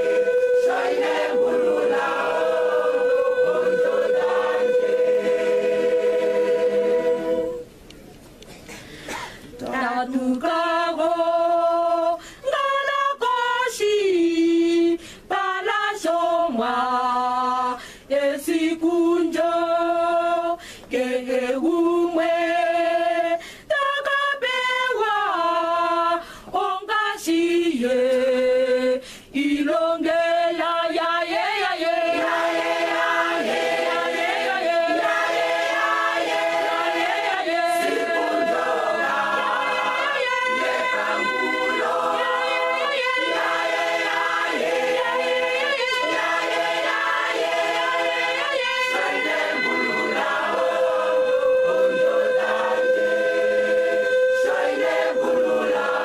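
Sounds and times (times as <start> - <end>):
choir singing unaccompanied: 0.0 - 7.7, 9.6 - 56.0.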